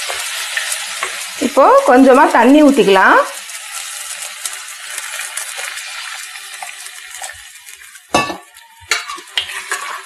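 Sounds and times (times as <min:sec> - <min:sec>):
water hissing in hot pan: 0:00.0 - 0:10.0.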